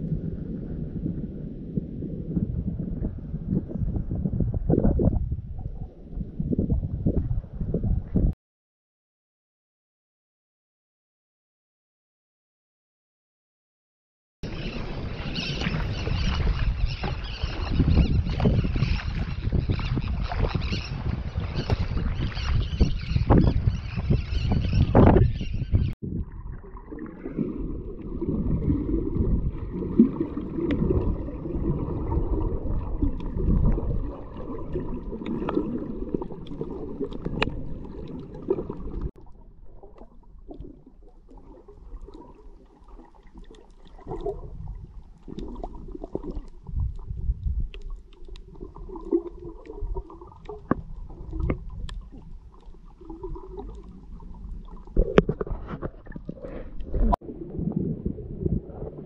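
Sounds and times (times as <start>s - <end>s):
underwater gurgling rumble: 0.0s - 8.4s, 14.4s - 59.0s.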